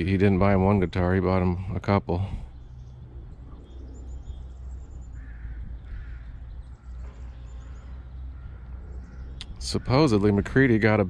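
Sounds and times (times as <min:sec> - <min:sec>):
harsh bird calls: 0:00.0 - 0:11.0
low outdoor rumble: 0:00.0 - 0:11.0.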